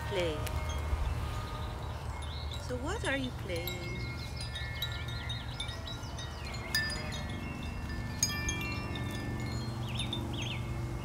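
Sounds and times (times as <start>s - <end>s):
chimes ringing: 0.0s - 11.0s.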